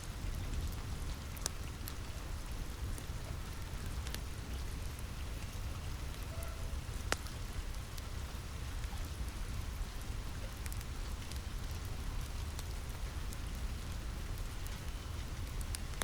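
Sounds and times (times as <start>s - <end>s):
fire crackling: 0.0s - 16.0s
rain on a roof: 0.0s - 16.0s.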